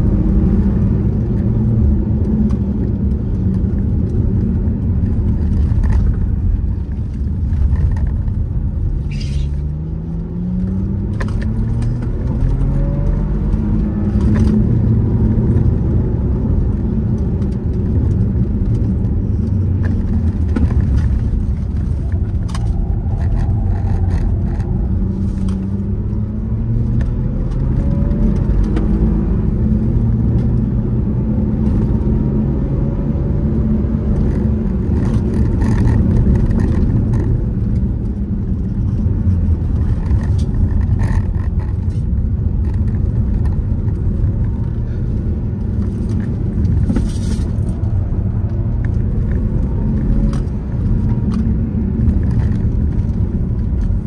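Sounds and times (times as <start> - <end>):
car engine accelerating: 0.0 - 54.0
heavy low rumble: 0.0 - 54.0.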